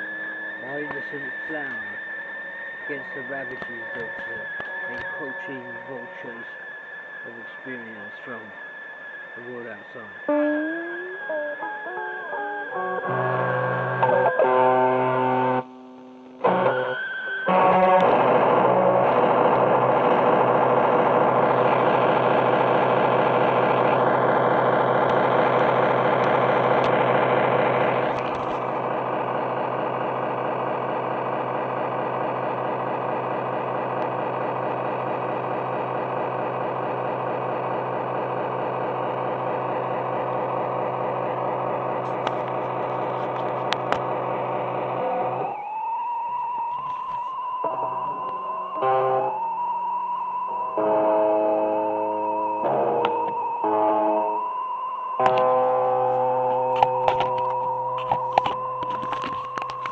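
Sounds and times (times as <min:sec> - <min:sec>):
many-toned drone: 0:00.0 - 0:59.9.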